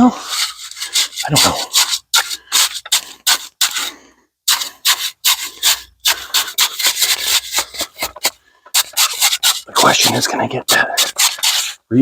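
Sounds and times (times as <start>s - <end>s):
hand tool scraping wet concrete: 0.0s - 11.9s.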